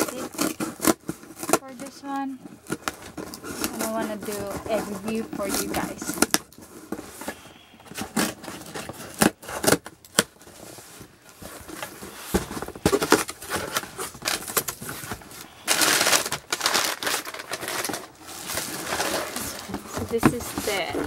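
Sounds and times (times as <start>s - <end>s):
box flaps clicking and scraping: 0.0s - 21.0s
tissue paper rustling: 0.0s - 21.0s.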